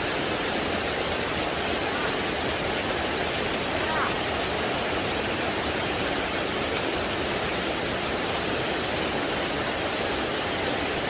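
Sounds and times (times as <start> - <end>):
waterfall and creek rushing: 0.0 - 11.0.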